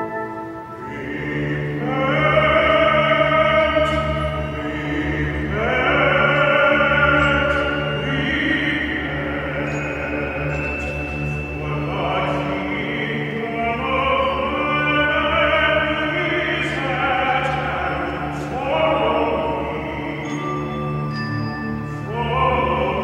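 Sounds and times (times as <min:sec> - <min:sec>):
choir singing with orchestra: 0:00.0 - 0:23.0.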